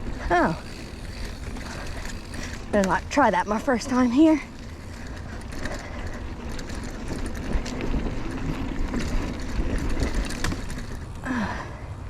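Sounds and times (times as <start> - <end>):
tyres rumbling over dirt: 0.0 - 11.8
bike rattling and clicking: 0.0 - 12.0.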